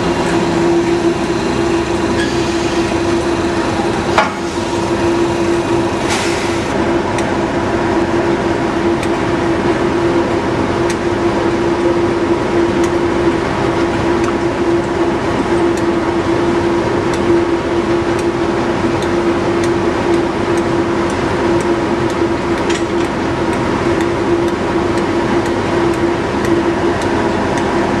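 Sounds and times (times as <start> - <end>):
diesel locomotive engine idling: 0.0 - 28.0.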